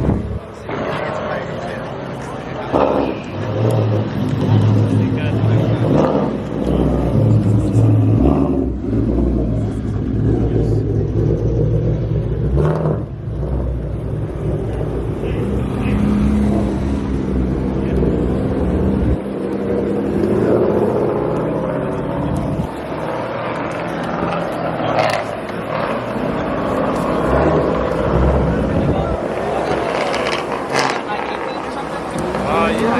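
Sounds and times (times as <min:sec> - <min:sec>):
car engine rumbling: 0:00.0 - 0:32.9
crowd noise: 0:00.0 - 0:32.9
traffic: 0:00.0 - 0:32.9.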